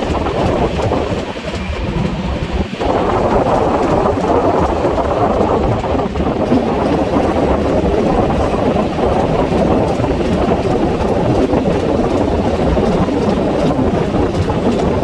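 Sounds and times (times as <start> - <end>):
train rumbling at speed: 0.0 - 15.0
wind buffeting microphone: 0.0 - 15.0.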